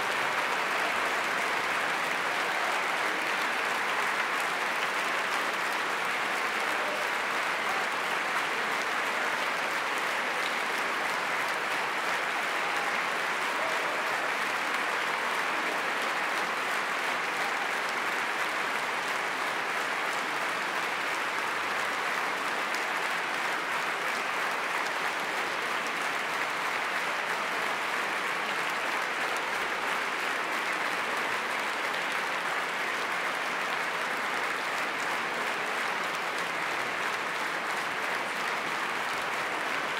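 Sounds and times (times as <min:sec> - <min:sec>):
large audience applause: 0:00.0 - 0:39.9.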